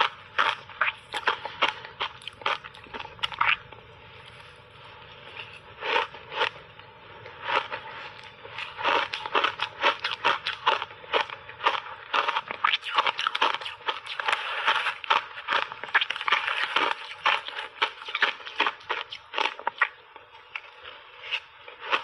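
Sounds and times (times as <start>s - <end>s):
ice crunching being chewed: 0.0s - 22.0s.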